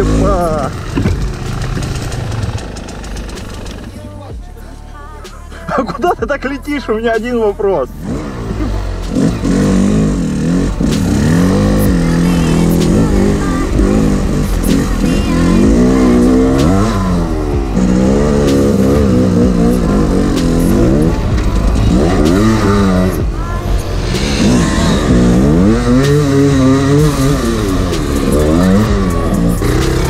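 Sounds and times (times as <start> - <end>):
dirt bike engine revving: 0.0 - 4.5, 7.9 - 30.0.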